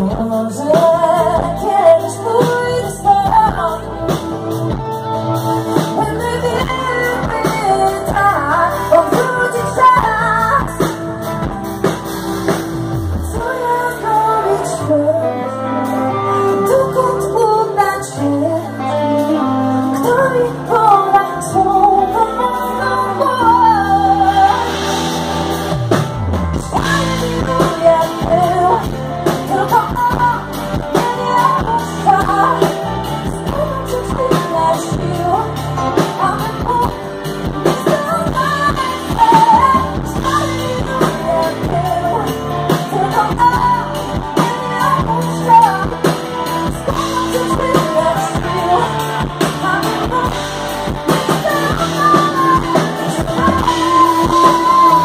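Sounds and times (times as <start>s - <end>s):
woman singing: 0.0s - 11.9s, 13.0s - 25.8s, 26.4s - 55.0s
rock band playing: 0.0s - 55.0s.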